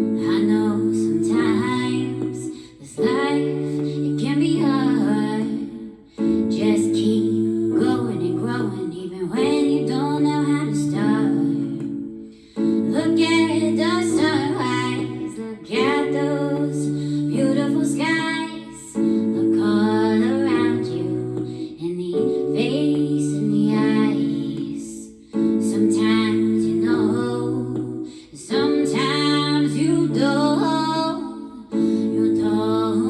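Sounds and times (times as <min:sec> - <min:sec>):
held chords: 0:00.0 - 0:33.0
woman singing: 0:00.0 - 0:33.0.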